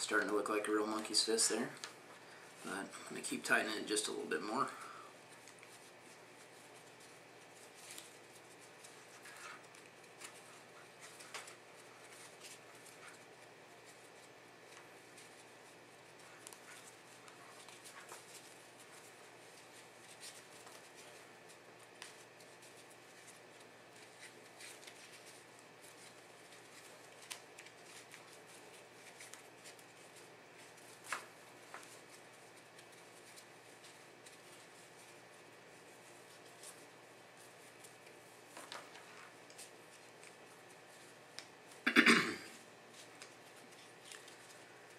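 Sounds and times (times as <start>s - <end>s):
rope rustling and clicking: 0.0s - 2.7s, 5.2s - 41.9s, 42.6s - 44.9s.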